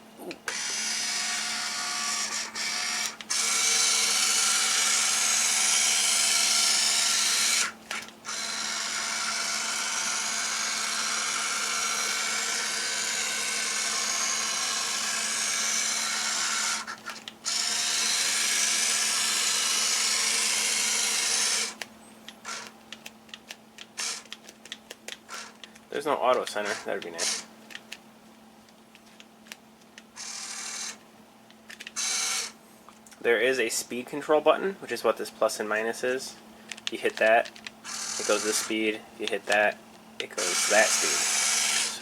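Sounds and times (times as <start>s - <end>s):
searchlight motors running: 0.4s - 28.0s, 28.9s - 32.6s, 36.6s - 42.0s.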